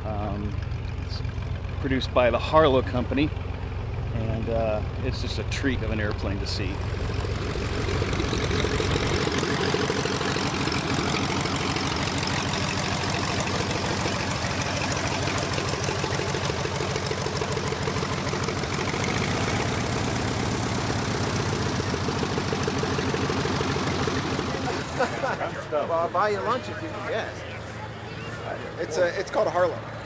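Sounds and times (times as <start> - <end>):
light airplane engine running: 0.0 - 30.0.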